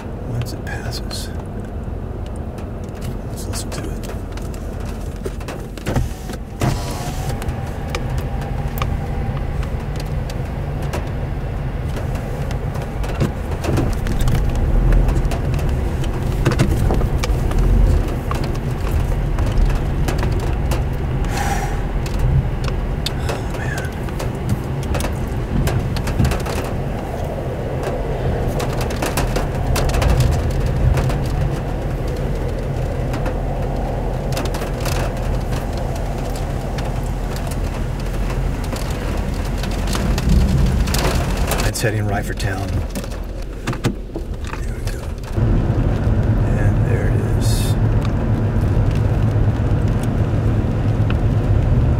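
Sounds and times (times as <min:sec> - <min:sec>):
tornado roaring: 0:00.0 - 0:51.9.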